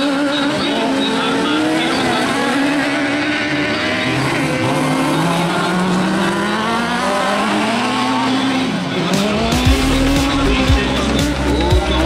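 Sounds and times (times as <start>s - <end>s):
racing car engine running hard: 0.0s - 12.0s.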